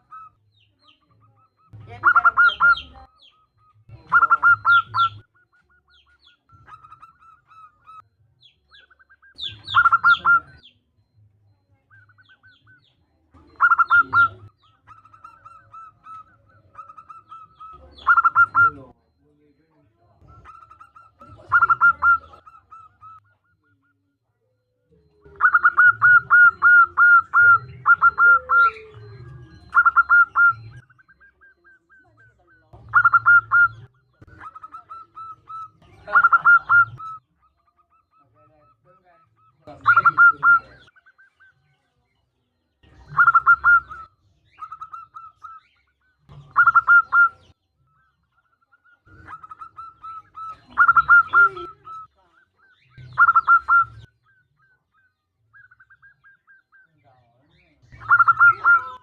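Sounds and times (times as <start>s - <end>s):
dove cooing: 0.0s - 11.2s, 11.8s - 41.6s, 42.6s - 56.9s, 57.8s - 59.0s.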